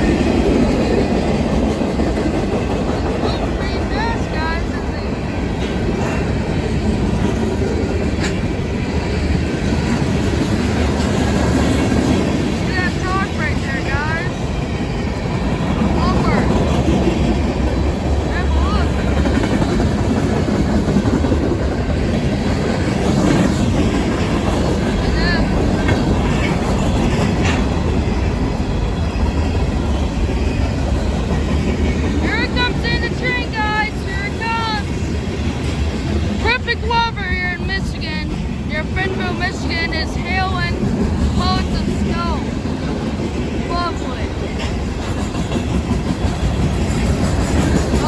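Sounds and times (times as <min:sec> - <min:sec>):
freight train rolling past: 0:00.0 - 0:48.0.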